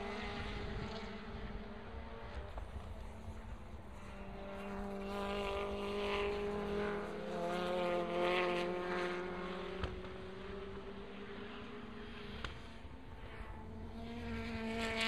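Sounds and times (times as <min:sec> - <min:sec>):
race cars passing: 0:00.0 - 0:15.0.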